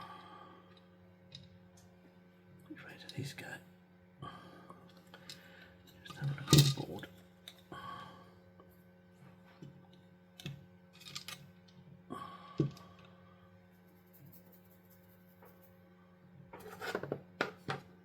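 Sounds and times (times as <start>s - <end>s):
faint hum: 0.0s - 16.9s.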